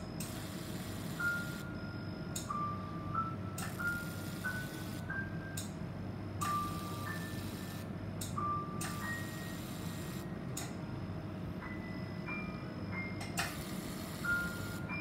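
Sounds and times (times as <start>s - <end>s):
machine low hum: 0.0s - 15.0s.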